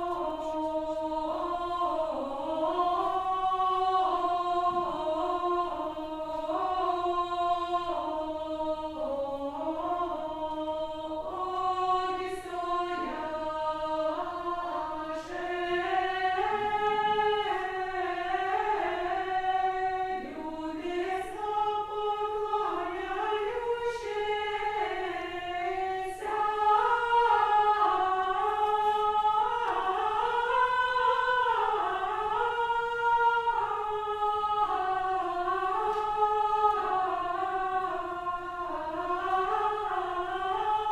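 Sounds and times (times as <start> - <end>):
choir singing a cappella: 0.0 - 40.9.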